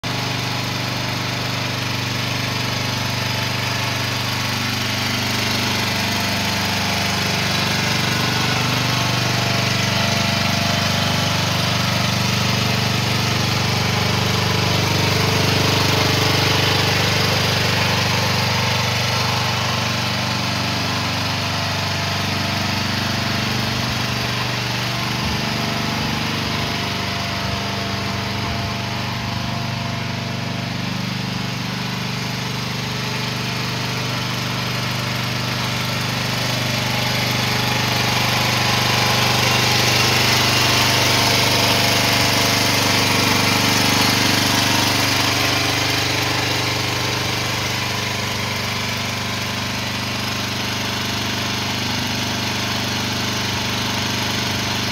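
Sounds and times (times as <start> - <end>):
mini excavator engine idling: 0.0 - 54.9.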